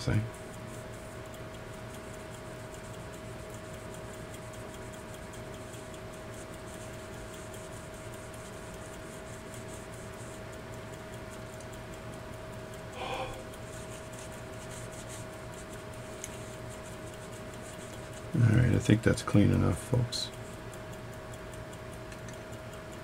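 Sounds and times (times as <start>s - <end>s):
clock ticking fast: 0.0s - 23.0s
faint steady hum: 0.0s - 23.0s.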